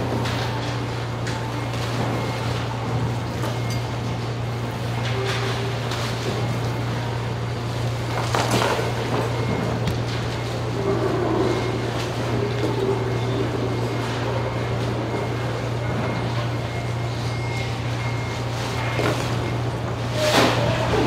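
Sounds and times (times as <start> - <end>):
fish market background noise: 0.0 - 21.0
low machine hum: 0.0 - 21.0.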